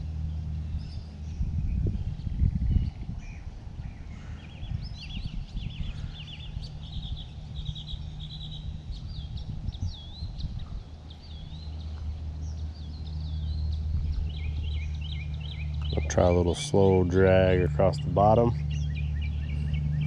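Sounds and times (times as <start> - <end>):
low steady rumble: 0.0 - 20.0
songbirds singing: 0.0 - 20.0.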